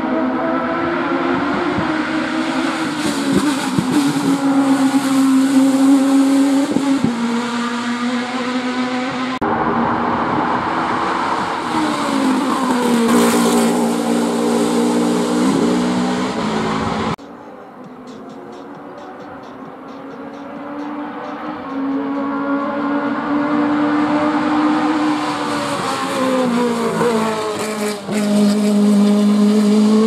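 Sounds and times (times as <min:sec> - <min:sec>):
race car engines revving: 0:00.0 - 0:30.0
race car passing close: 0:00.0 - 0:30.0.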